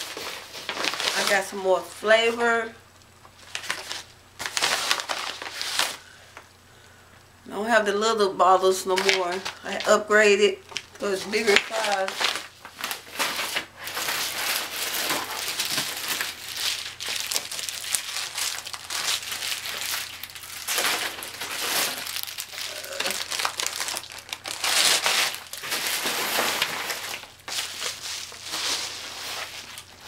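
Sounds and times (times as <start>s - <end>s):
plastic packaging crinkling: 0.0s - 6.5s, 8.9s - 30.0s.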